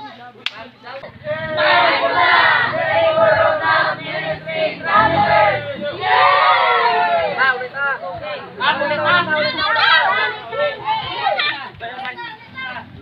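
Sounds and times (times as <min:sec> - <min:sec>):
group singing and chanting: 0:01.0 - 0:13.0.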